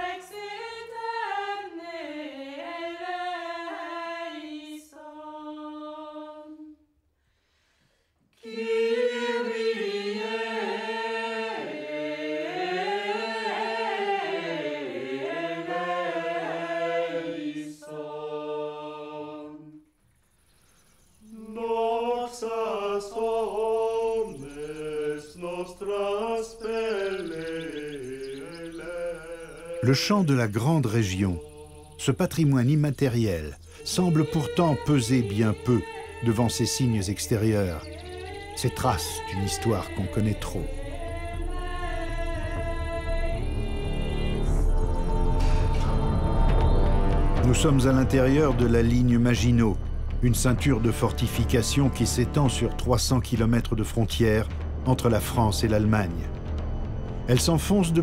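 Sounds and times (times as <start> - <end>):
choir singing chant a cappella: 0.0 - 6.9, 8.3 - 20.0, 21.2 - 58.0.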